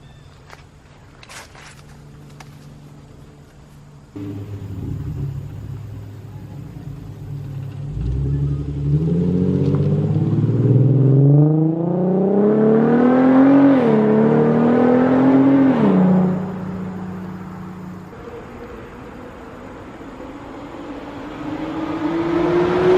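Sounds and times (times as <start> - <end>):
car exhaust idling and accelerating: 0.8 - 22.9.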